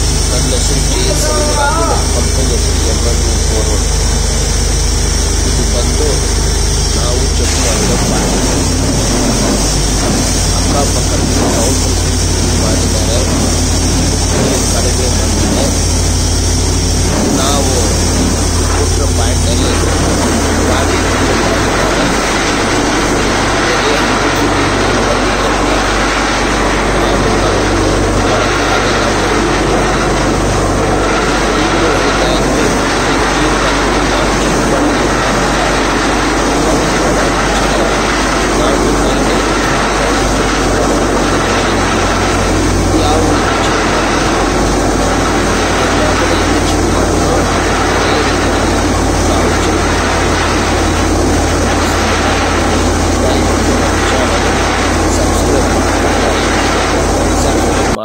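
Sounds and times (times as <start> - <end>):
compressed air blowing water: 0.0 - 58.0
drilling rig engine and compressor: 0.0 - 58.0.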